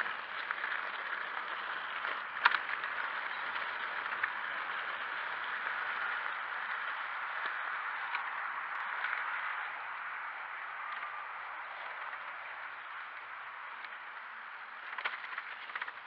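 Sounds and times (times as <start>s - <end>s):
bike rattling: 0.0s - 16.0s
bike tyres hissing on gravel: 0.0s - 16.0s.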